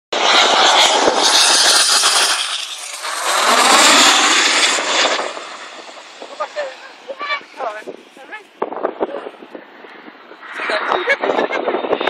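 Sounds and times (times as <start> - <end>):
jets passing low overhead: 0.1 - 12.0.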